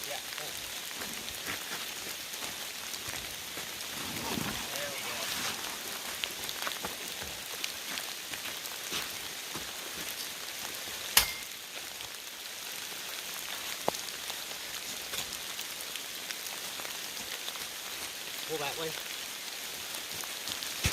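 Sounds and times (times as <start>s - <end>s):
pouring rain: 0.0s - 20.9s.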